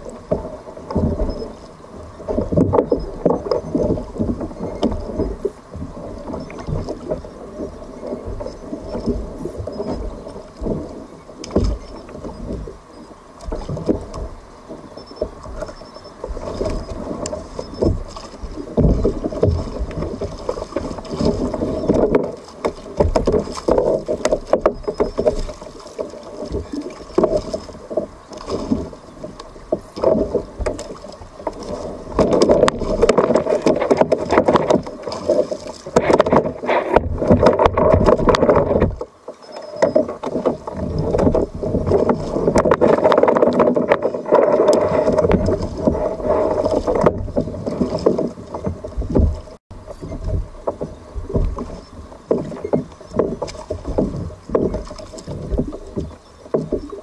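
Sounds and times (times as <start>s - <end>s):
water splashing against hull: 0.0s - 57.0s.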